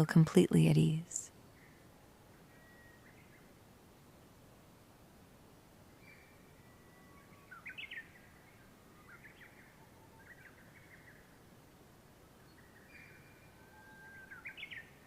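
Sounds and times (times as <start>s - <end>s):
background hiss: 0.0s - 15.0s
faint birdsong: 1.4s - 4.6s, 5.8s - 15.0s.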